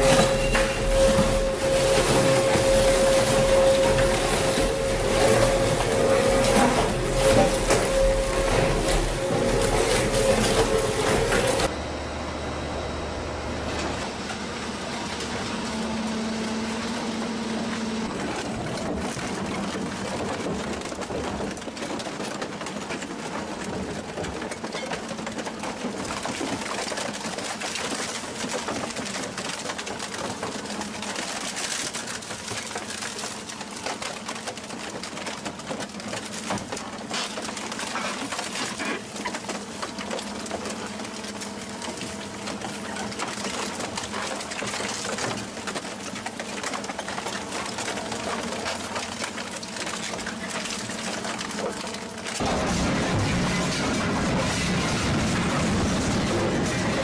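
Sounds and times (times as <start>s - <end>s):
metal crunching and crackling: 0.0s - 11.7s, 15.0s - 57.0s
shredder machine hum: 0.0s - 57.0s.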